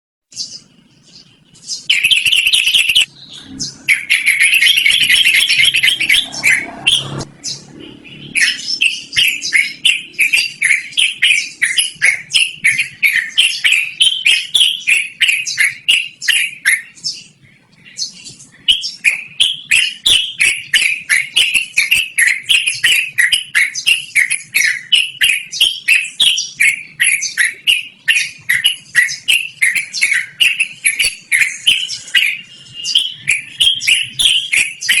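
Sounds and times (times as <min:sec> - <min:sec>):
bird chattering song: 0:00.3 - 0:35.0.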